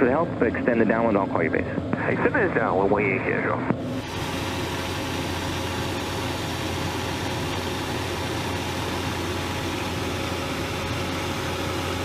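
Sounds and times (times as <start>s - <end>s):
aircraft engine drone in cabin: 0.0s - 12.0s.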